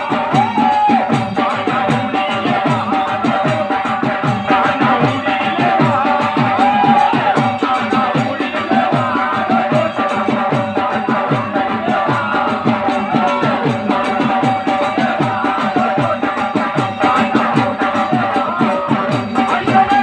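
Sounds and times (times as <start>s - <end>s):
drum beating quick rhythm: 0.0s - 20.0s
folk dance music over loudspeaker: 0.0s - 20.0s.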